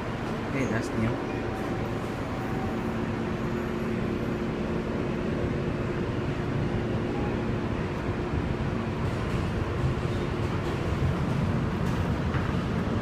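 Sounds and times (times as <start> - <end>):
low hum of train equipment: 0.0 - 13.0
subway car rumble: 0.0 - 13.0.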